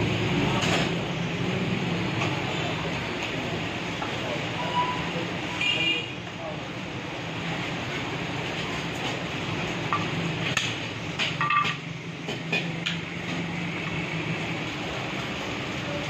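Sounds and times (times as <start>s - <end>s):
rumble of busy meat shop: 0.0s - 16.0s.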